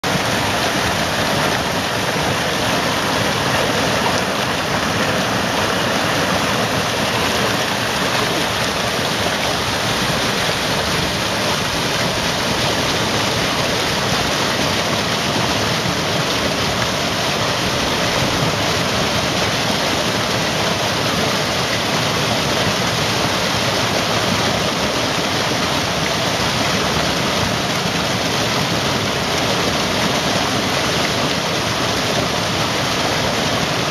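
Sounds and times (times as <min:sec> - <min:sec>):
cascade pouring into pool: 0:00.0 - 0:33.9
creek rushing over boulders: 0:00.0 - 0:33.9.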